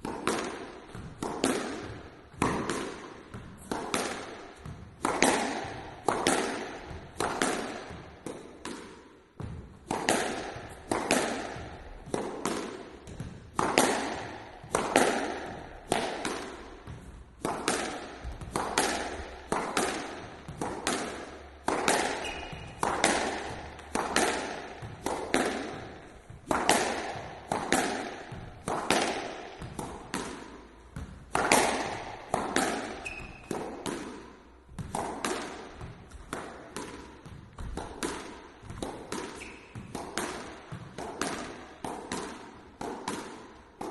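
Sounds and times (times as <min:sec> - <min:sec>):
squash ball hitting racket and walls: 0:00.0 - 0:43.9.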